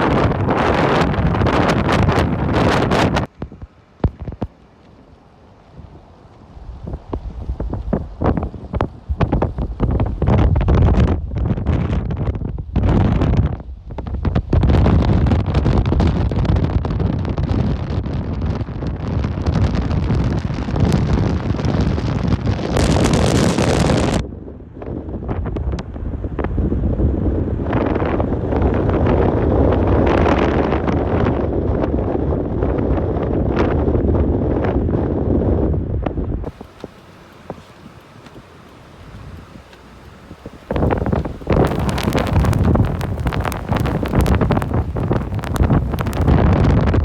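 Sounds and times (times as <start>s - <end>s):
wind buffeting microphone: 0.0s - 4.6s, 5.6s - 47.0s.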